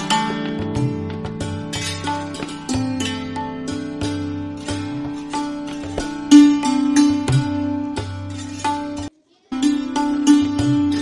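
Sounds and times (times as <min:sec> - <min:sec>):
plucked string instrument: 0:00.0 - 0:11.0.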